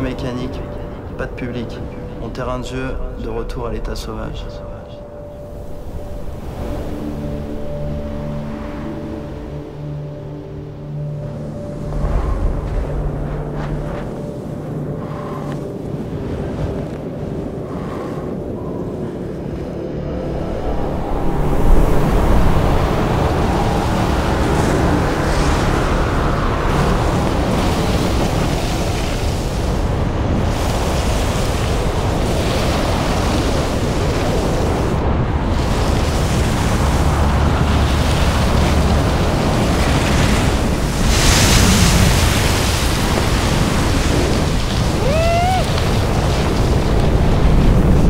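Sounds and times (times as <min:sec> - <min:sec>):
rushing wind: 0:05.0 - 0:48.0.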